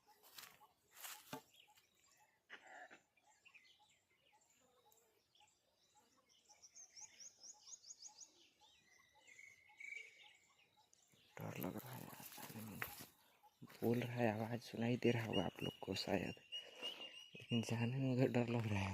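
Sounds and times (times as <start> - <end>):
faint birdsong: 0.0 - 18.9.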